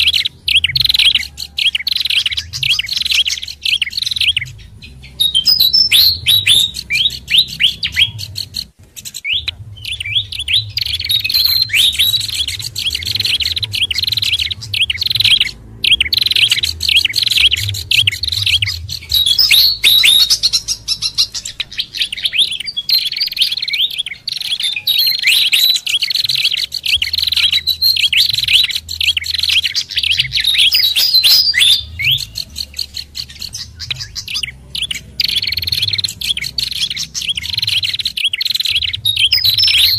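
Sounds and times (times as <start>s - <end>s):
faint low hum: 0.0s - 39.9s
songbirds chirping and trilling: 0.0s - 39.9s.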